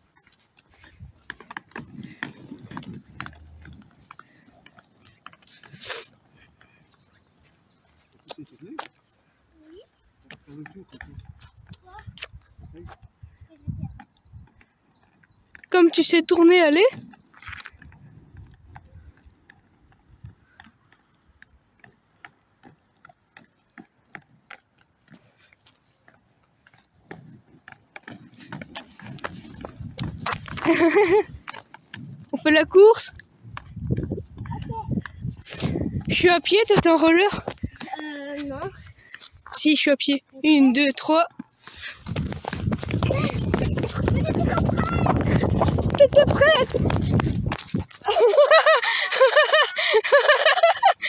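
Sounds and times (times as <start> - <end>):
small wheels rolling on asphalt: 0.0 - 51.0.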